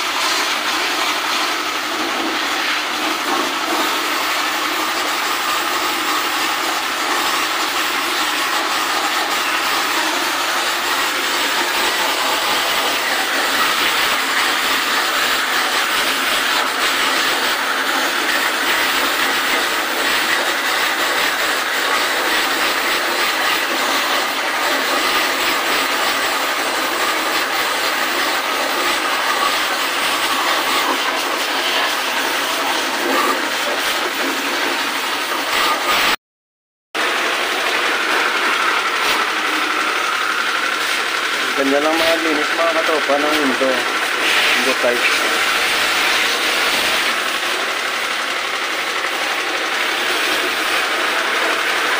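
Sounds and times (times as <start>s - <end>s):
high-pressure water jet spraying: 0.0s - 36.2s, 37.0s - 51.9s.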